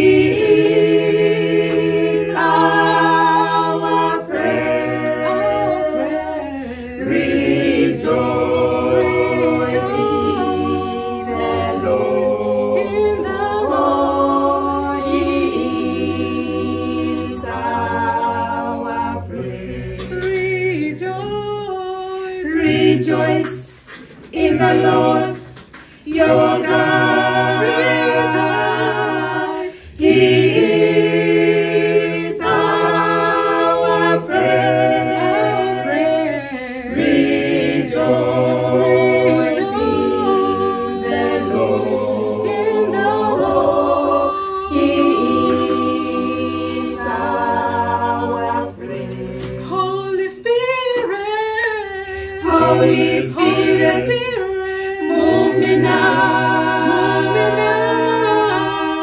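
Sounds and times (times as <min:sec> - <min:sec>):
group singing a cappella: 0:00.0 - 0:59.0.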